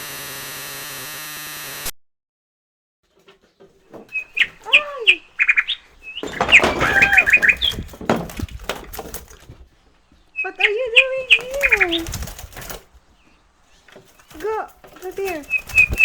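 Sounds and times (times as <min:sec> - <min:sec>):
bird calling with clicks and whistles: 0:03.2 - 0:16.0.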